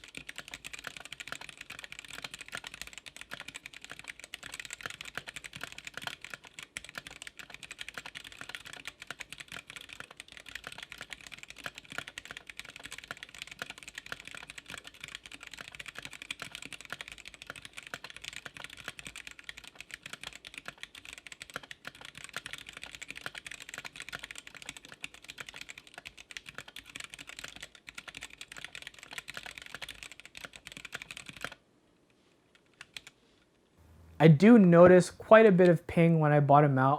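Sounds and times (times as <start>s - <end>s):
mechanical keyboard typing: 0.0s - 31.6s, 32.7s - 33.2s.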